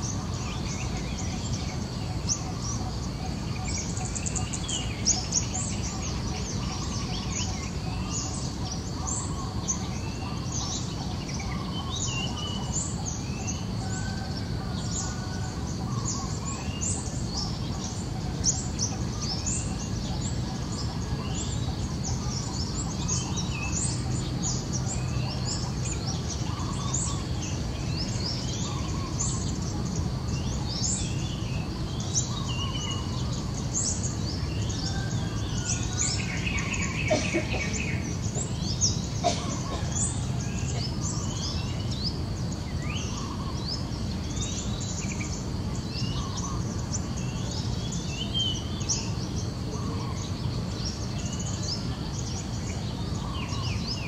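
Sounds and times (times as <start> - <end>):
low background noise: 0.0 - 54.0
small birds chirping: 0.0 - 54.0.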